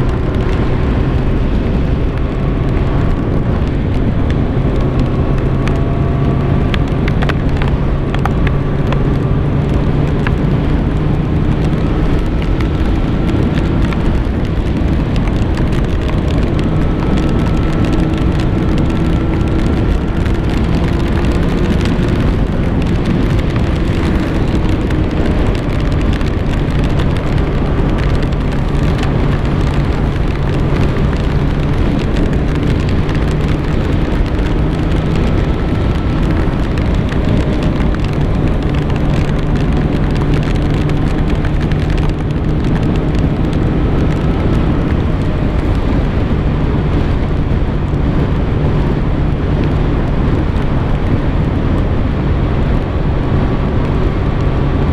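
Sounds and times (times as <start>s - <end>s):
motorcycle engine cruising: 0.0s - 54.9s
rain: 0.0s - 54.9s.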